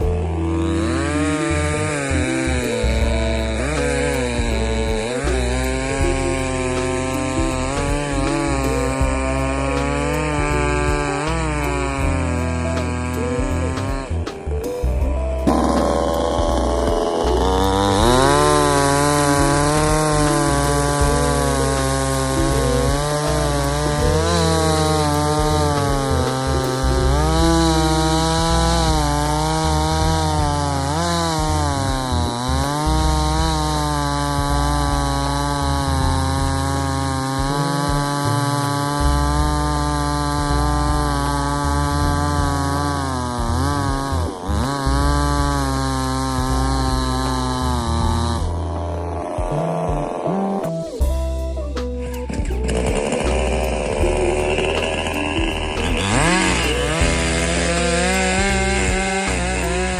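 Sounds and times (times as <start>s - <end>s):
chainsaw cutting wood: 0.0s - 51.2s, 51.8s - 59.9s.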